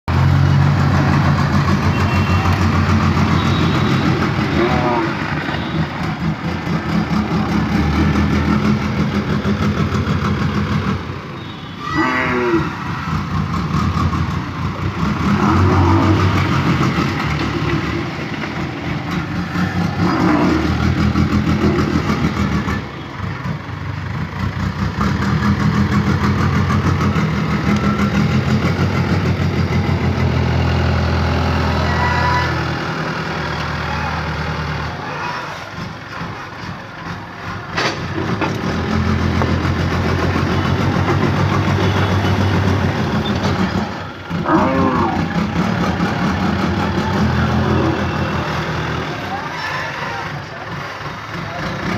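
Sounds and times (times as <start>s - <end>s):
bulldozer diesel engine running: 0.1s - 51.9s.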